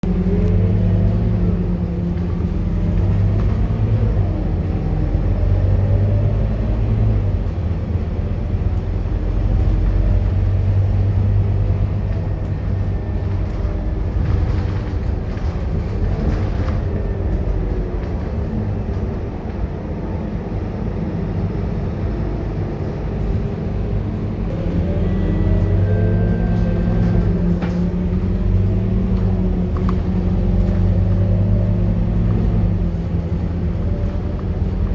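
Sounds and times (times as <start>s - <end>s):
bus diesel engine running: 0.0s - 34.9s.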